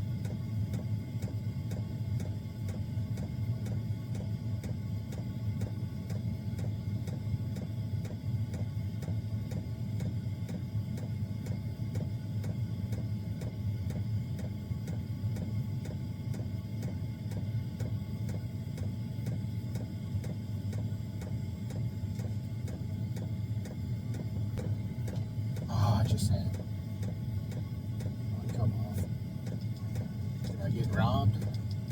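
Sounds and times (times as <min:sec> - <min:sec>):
heater combustion and fan hum: 0:00.0 - 0:31.9
fuel pump ticking: 0:00.2 - 0:31.9.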